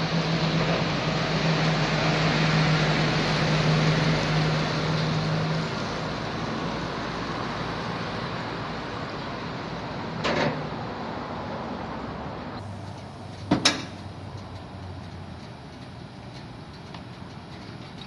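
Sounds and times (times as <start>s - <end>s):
engine and road noise: 0.0s - 18.0s.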